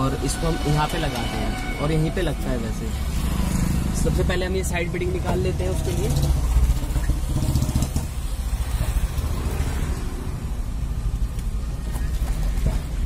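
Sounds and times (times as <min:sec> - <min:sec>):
motor vehicle rumble: 0:01.4 - 0:13.0.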